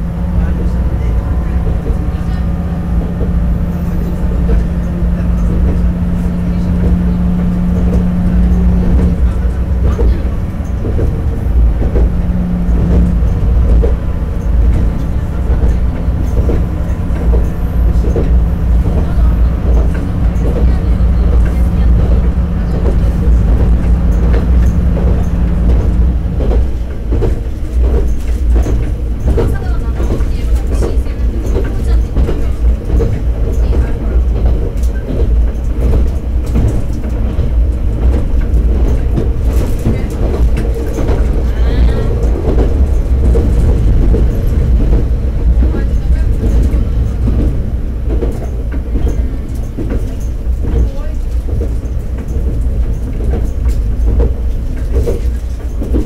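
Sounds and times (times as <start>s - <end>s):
railcar engine rumble: 0.0s - 56.0s
wheels clicking over rail joints: 0.0s - 56.0s.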